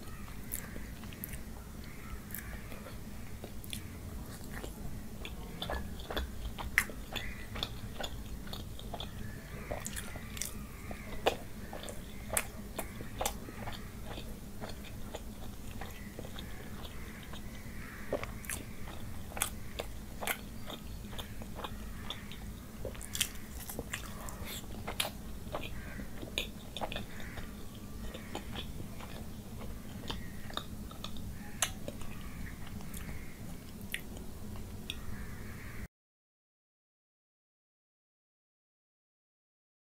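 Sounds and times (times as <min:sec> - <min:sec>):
low steady hum: 0:00.0 - 0:35.9
person chewing with mouth clicks: 0:00.3 - 0:01.6, 0:02.3 - 0:35.0.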